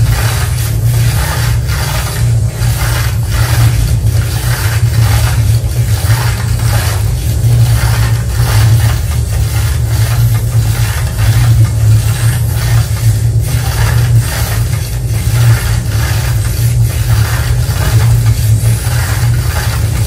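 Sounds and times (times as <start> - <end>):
loud steady low hum: 0.0 - 20.0
rhythmic scraping pulse: 0.0 - 20.0.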